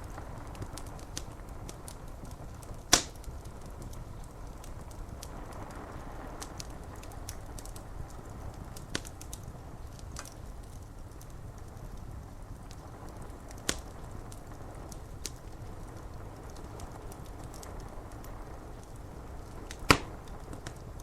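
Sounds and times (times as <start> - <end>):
fire crackling and popping: 0.0 - 21.0
rain on window glass: 0.0 - 21.0.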